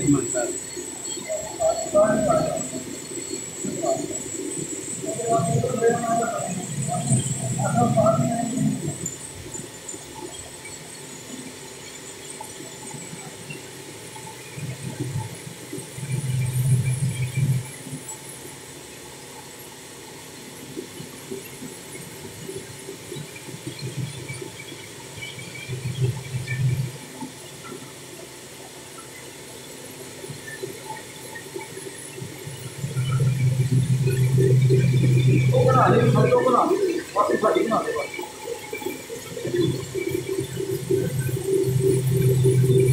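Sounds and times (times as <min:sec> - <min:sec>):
steam engine hum and hiss: 0:00.0 - 0:42.9.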